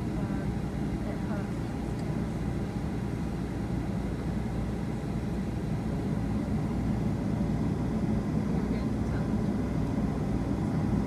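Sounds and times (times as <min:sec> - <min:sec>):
faint steady hum: 0:00.0 - 0:11.0
jet engines idling in cabin: 0:00.0 - 0:11.0.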